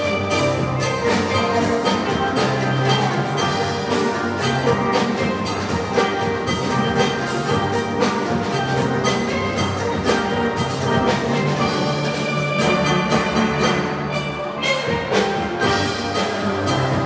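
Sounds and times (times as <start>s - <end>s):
percussion beat: 0.0s - 17.0s
steel pans playing: 0.0s - 17.0s.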